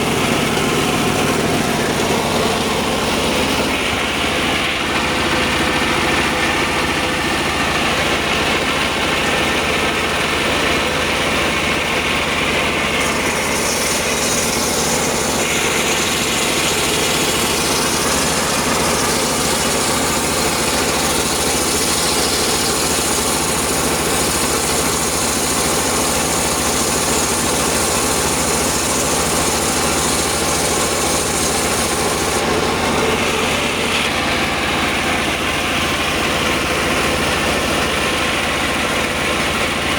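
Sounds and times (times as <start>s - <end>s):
circular sawmill sawing wood: 0.0s - 39.9s.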